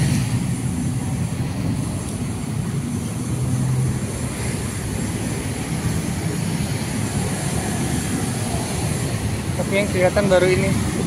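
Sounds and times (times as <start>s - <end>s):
cars and motorbikes passing: 0.0s - 11.0s.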